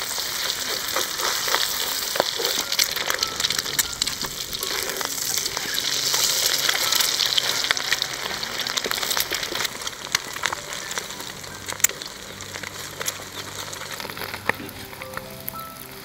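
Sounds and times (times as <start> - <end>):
egg sizzling in hot oil: 0.0 - 16.0.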